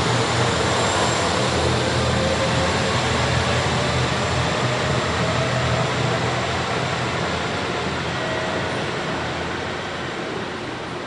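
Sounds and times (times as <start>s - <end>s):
diesel railcar engine humming: 0.0s - 11.0s.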